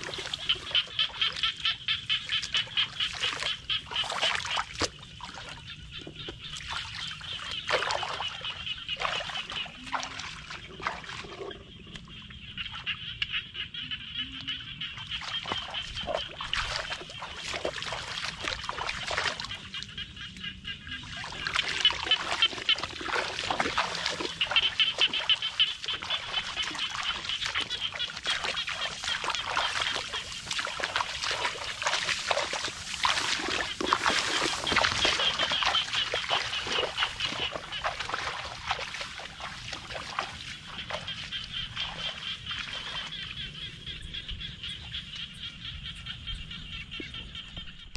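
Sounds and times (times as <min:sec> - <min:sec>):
bare feet splashing in mud: 0:00.0 - 0:12.0, 0:15.0 - 0:43.7
chorus of calling animals: 0:00.0 - 0:47.7.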